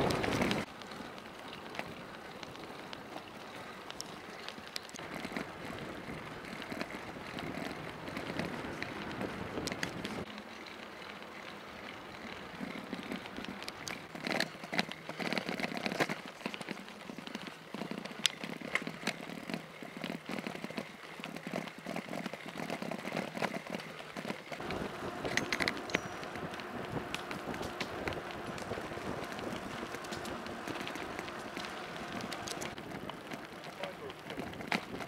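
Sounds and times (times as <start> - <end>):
bicycle tyres on cobblestones: 0.0 - 35.0
bike clicks and rattles: 0.0 - 35.0.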